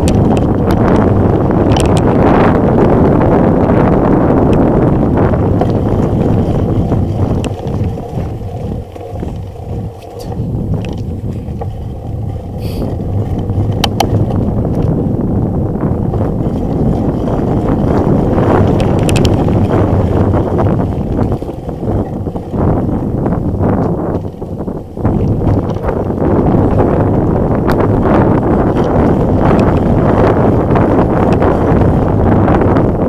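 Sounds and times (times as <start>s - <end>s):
bike tyre and frame noise: 0.0s - 33.0s
wind buffeting microphone: 0.0s - 33.0s.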